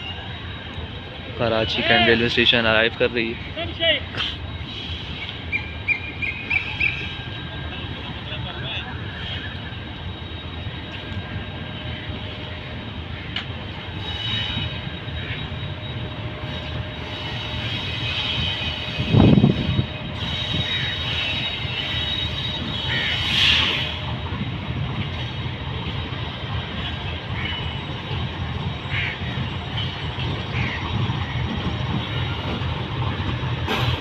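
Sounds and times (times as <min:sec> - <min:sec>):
locomotive engine drone: 0:00.0 - 0:34.0.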